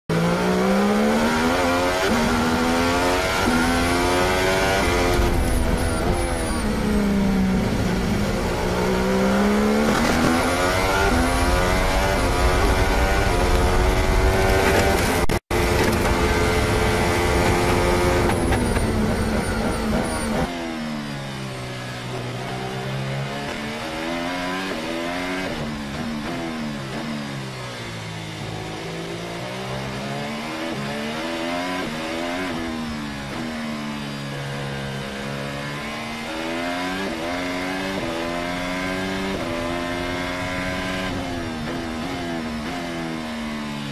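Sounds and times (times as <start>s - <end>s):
racing car engine at full throttle: 0.0s - 43.9s
racing car engine changing gears: 0.1s - 43.9s.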